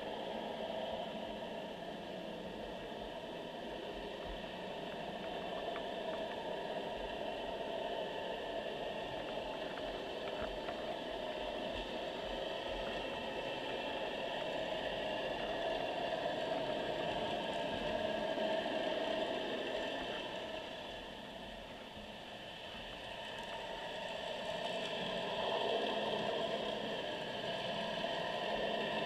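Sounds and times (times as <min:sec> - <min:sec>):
muffled underwater hiss: 0:00.0 - 0:29.0.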